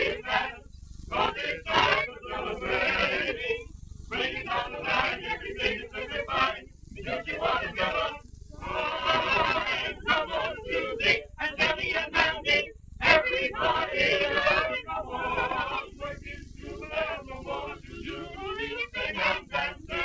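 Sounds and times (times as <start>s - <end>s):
low recording noise: 0.0s - 20.0s
mixed choir singing: 0.0s - 20.0s.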